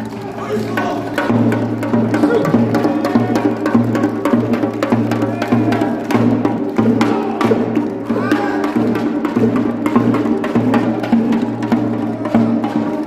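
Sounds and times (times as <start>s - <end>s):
drums beaten in fast rhythm: 0.0s - 13.0s.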